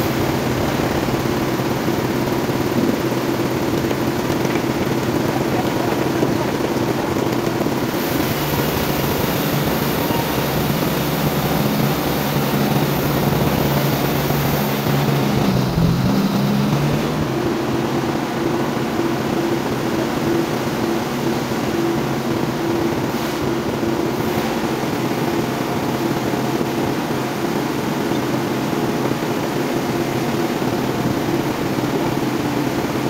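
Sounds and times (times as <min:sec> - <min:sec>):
band sawmill drone: 0:00.0 - 0:33.0.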